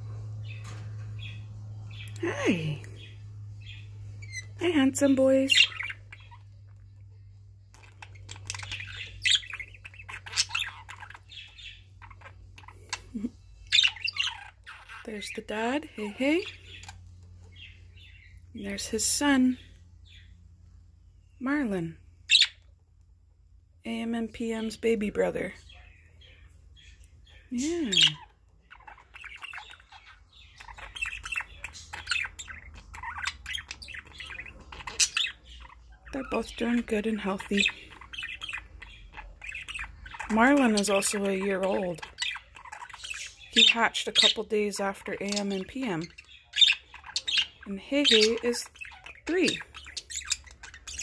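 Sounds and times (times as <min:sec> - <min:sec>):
budgerigars chirping: 0:00.2 - 0:20.6, 0:21.2 - 0:22.8, 0:23.9 - 0:51.0.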